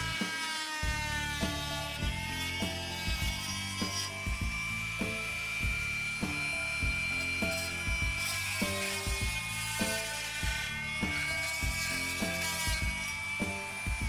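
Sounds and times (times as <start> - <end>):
background music with beat: 0.0 - 14.0
power tool cutting wood: 0.0 - 14.0.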